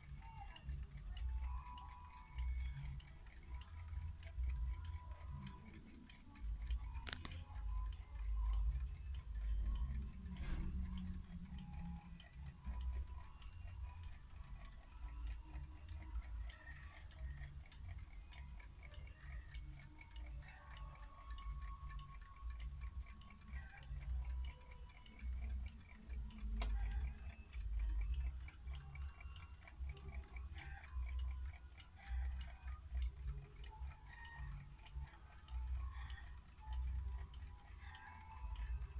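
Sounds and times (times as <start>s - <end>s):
mechanical clocks ticking: 0.0s - 38.9s
sharp clicks: 0.0s - 38.9s.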